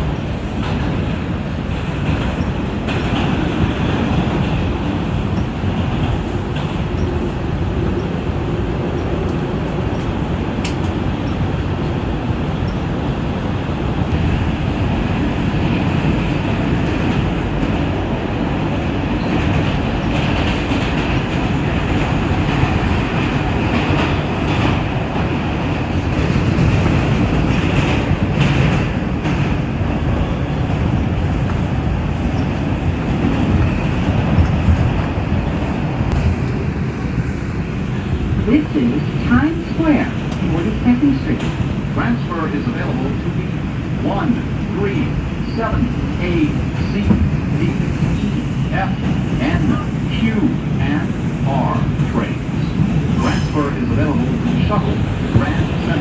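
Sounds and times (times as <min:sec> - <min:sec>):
subway train rumbling on rails: 0:00.0 - 0:56.0.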